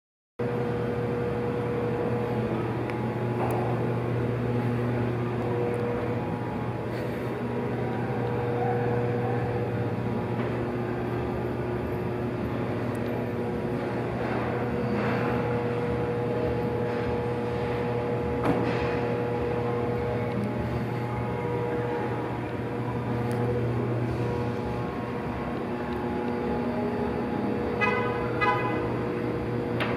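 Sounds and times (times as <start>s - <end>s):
low drone: 0.4s - 29.9s.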